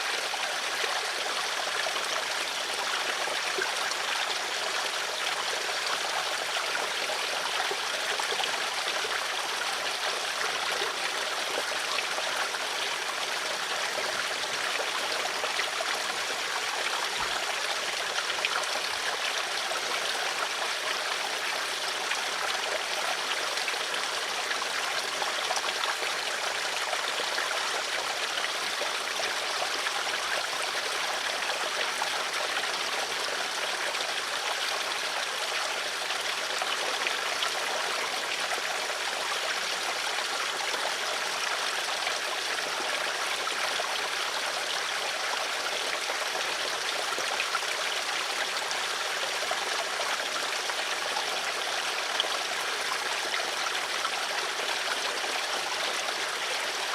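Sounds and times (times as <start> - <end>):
stream water flowing: 0.0 - 56.9.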